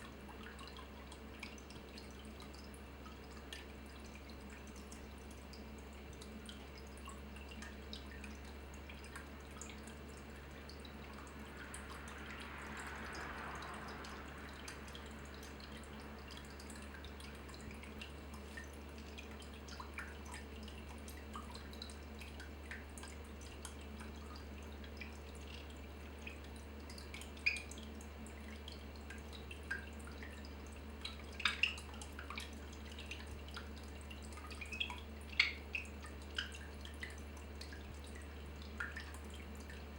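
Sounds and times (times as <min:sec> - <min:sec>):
steady low hum: 0:00.0 - 0:39.9
water dripping: 0:00.0 - 0:39.9
water trickling: 0:00.0 - 0:39.9.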